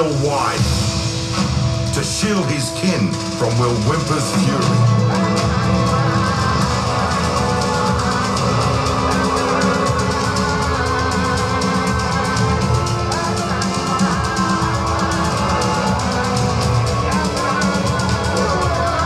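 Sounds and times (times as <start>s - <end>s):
orchestral electronic music: 0.0s - 19.0s.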